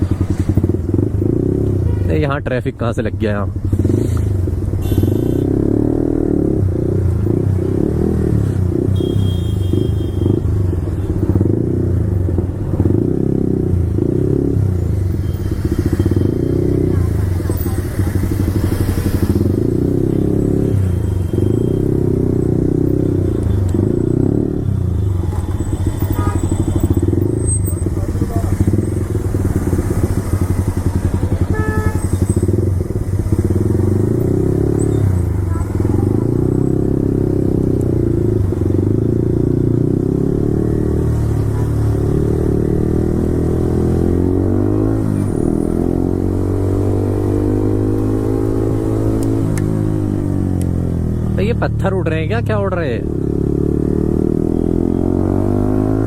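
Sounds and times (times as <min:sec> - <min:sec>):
motorcycle engine running: 0:03.5 - 0:52.1.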